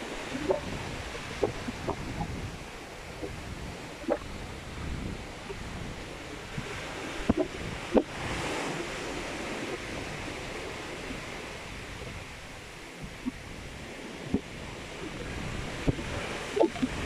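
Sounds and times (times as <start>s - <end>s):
ocean waves: 0.0s - 17.0s
wind: 0.0s - 17.0s.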